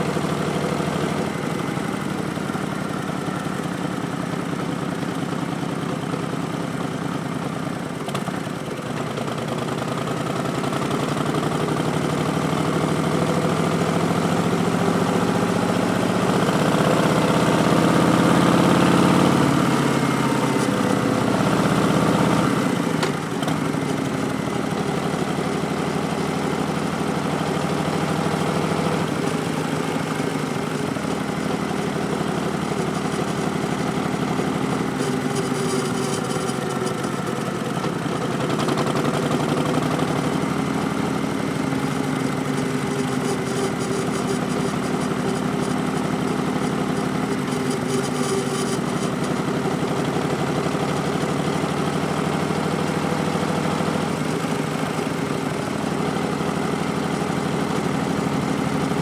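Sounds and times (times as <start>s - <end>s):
motorcycle engine revving: 9.2s - 59.0s.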